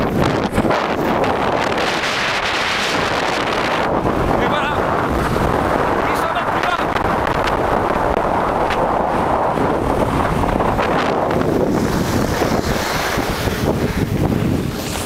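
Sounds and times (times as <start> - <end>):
skis scraping over snow: 0.0 - 15.0
wind rushing on microphone: 0.0 - 15.0.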